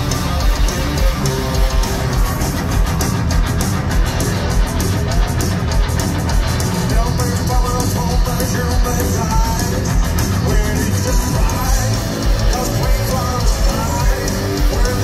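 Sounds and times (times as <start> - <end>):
bass guitar: 0.0 - 15.0
distorted electric guitars: 0.0 - 15.0
drums: 0.0 - 15.0.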